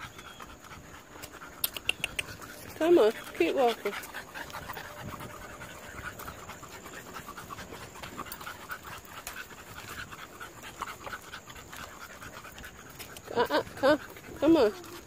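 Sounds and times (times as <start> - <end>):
puppy panting: 0.0 - 15.0.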